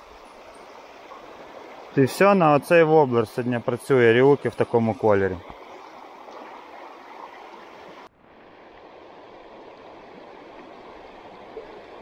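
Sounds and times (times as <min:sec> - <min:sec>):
river flowing over stones: 0:00.0 - 0:12.0.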